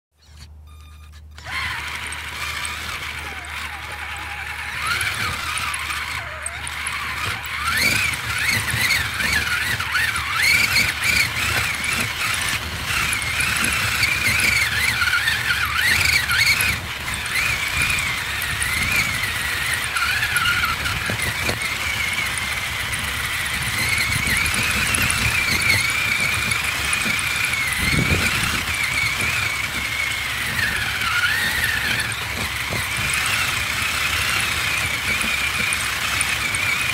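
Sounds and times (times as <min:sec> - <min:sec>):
electric motor whine: 0:00.2 - 0:36.9.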